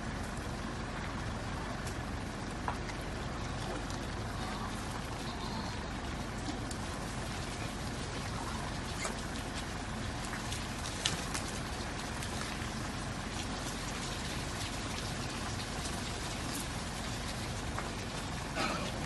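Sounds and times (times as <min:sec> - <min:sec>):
rain pattering: 0:00.0 - 0:19.0
water drips ticking: 0:00.0 - 0:19.0.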